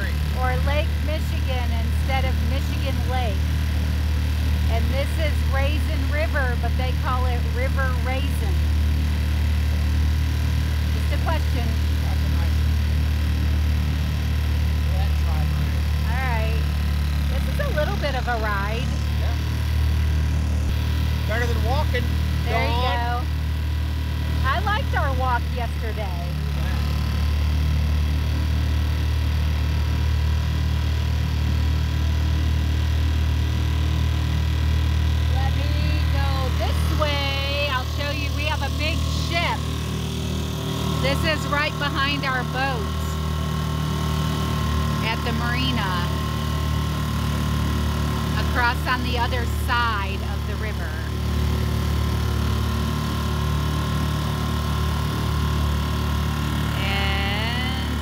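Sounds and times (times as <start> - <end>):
outboard motor droning: 0.0 - 58.0.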